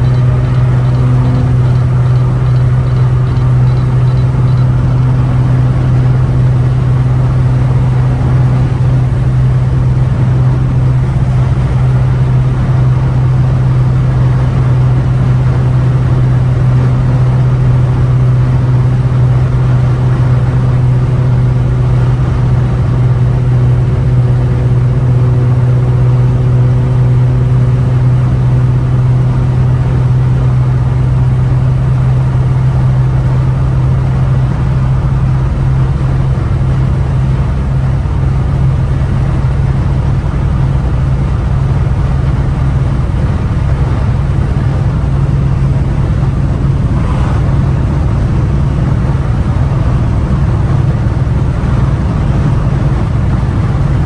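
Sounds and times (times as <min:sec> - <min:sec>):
car exhaust droning: 0:00.0 - 0:54.0
road noise rumble: 0:00.0 - 0:54.0.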